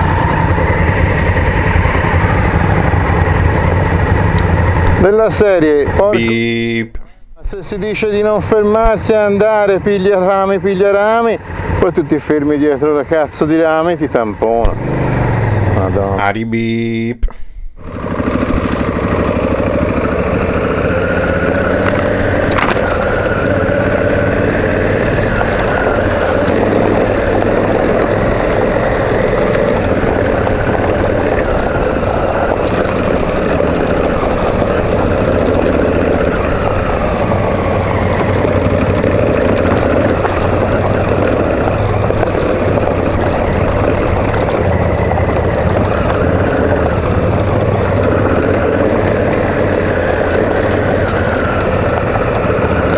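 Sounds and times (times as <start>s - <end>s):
motorcycle engine running: 0.0s - 7.2s, 7.8s - 52.9s.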